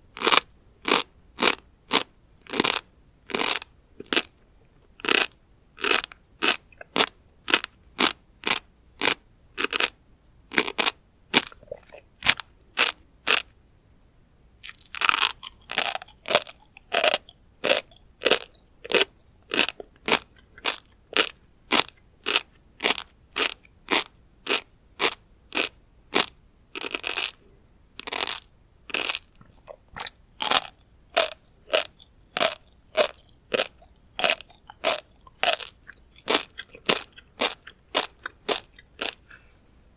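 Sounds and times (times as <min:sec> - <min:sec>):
chewing crunchy fish roe: 0:00.2 - 0:13.5, 0:14.6 - 0:39.6.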